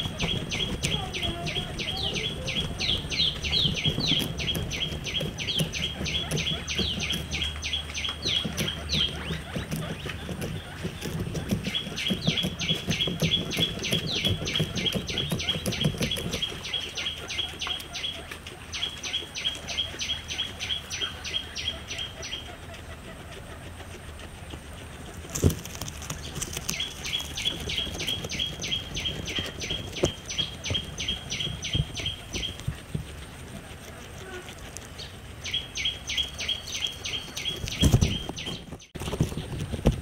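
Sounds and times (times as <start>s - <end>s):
guinea pig crunching grass: 0.0s - 40.0s.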